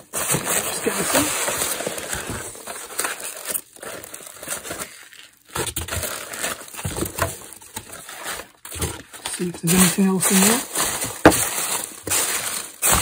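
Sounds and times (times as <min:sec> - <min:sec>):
foam packing peanuts rustling: 0:00.0 - 0:13.0.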